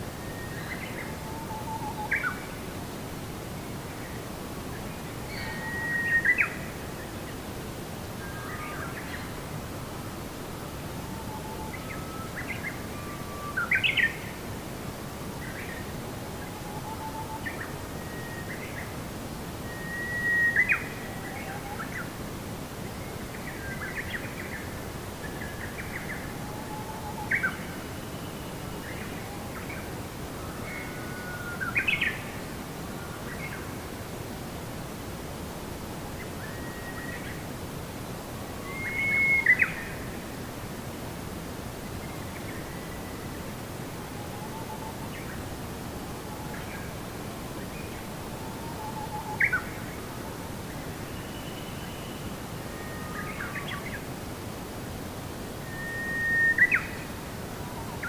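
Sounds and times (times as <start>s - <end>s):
soft background hiss: 0.0s - 58.0s.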